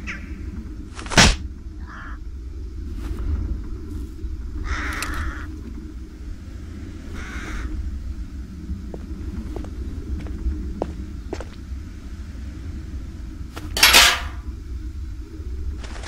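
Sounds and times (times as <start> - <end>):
low ambient rumble: 0.0 - 16.0.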